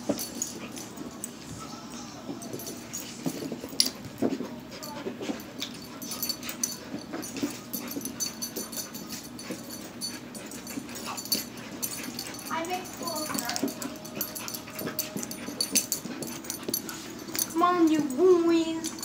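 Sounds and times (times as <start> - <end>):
puppies whining and grunting: 0.1 - 19.0.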